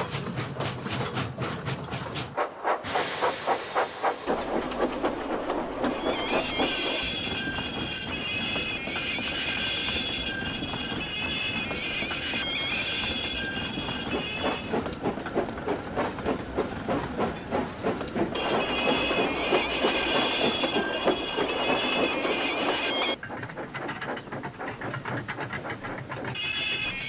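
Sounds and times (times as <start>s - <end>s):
steam train chuffing: 0.0s - 27.0s
wheel clatter: 3.8s - 27.0s.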